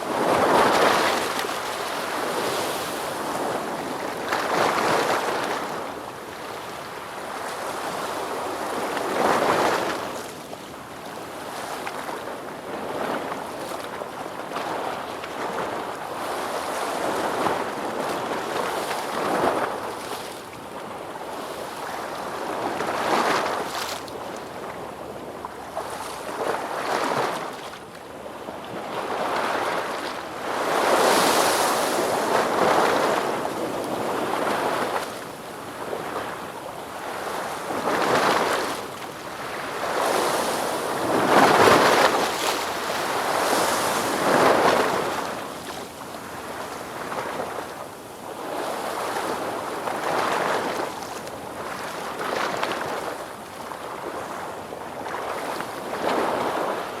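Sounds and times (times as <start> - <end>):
ocean waves breaking on shore: 0.0 - 10.3, 11.1 - 57.0.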